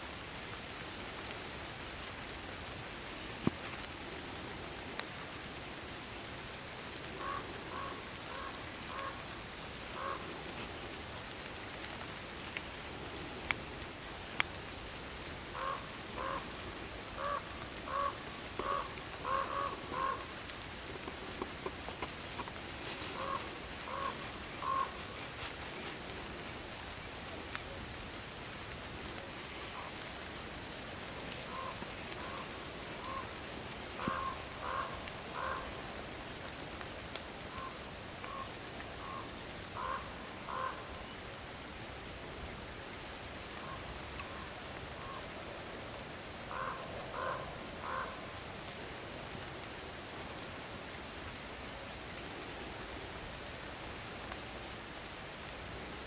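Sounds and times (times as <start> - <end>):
rain hissing: 0.0 - 56.0
wind: 0.0 - 56.0.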